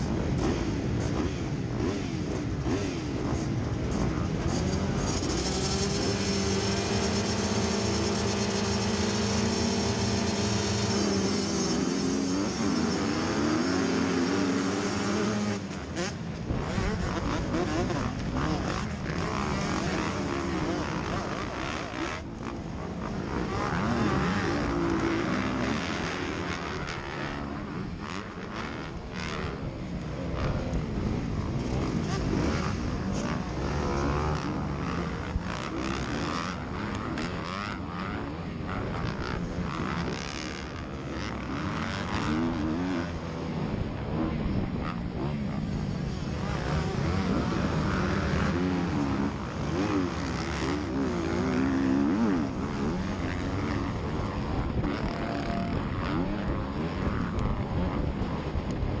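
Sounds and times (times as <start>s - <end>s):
motocross engines revving high: 0.0s - 58.5s.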